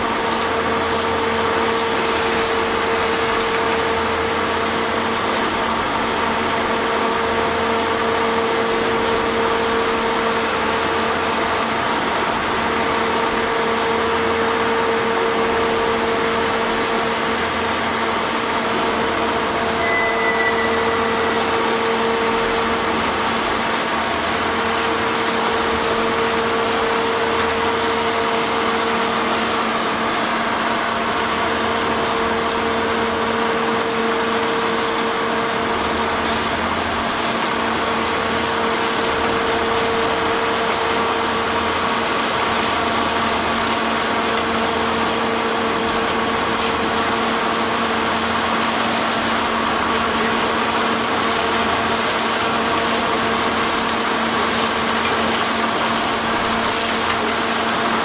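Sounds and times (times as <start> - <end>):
track maintenance machine drone: 0.0 - 58.0.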